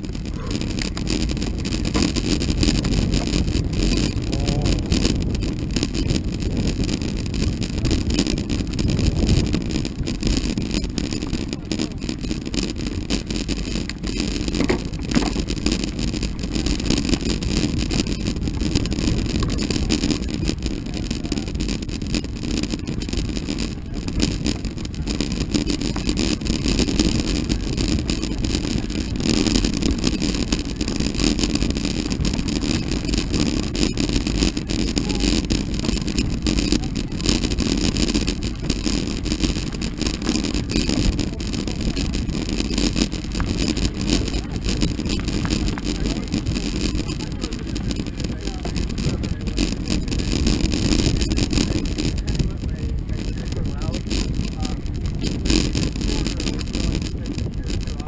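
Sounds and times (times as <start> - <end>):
bike tyres rolling on gravel: 0.0 - 58.0
wind buffeting microphone: 0.0 - 58.0.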